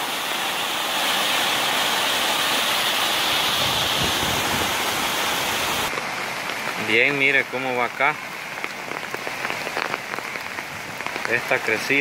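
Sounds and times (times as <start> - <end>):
heavy rain falling: 0.0 - 12.0
runoff water rushing over wall: 0.0 - 12.0.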